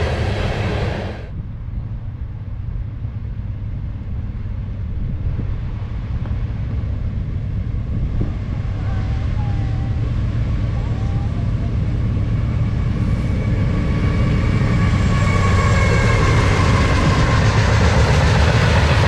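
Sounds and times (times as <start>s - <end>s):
steel wheels rushing on rail: 0.0s - 1.4s, 4.3s - 19.0s
low steady train rumble: 0.0s - 19.0s
wind on microphone: 0.0s - 19.0s.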